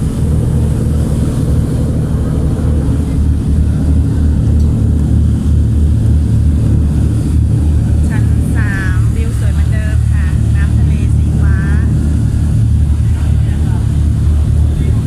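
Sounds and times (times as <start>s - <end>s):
ship diesel engines droning: 0.0s - 15.0s.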